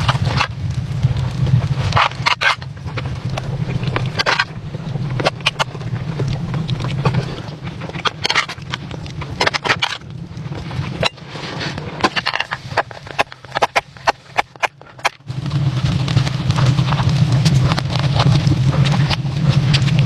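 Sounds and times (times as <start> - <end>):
low rumble: 0.0 - 20.0
sharp crackles and snaps: 0.0 - 20.0.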